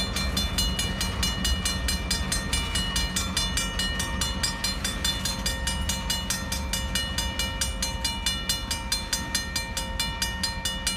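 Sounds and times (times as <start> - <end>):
freight train rumbling: 0.0 - 10.9
railroad crossing bell ringing: 0.0 - 10.9.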